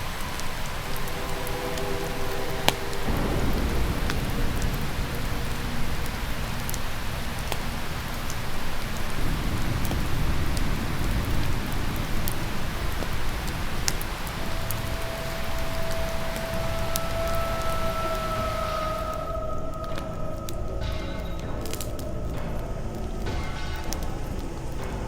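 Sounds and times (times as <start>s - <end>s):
river rushing: 0.0s - 25.0s
steady tone: 0.0s - 25.0s.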